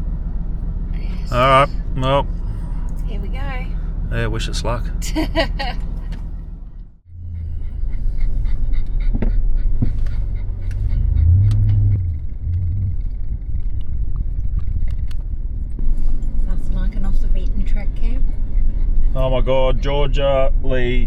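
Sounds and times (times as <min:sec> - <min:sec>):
vehicle driving on dirt track: 0:00.0 - 0:21.0.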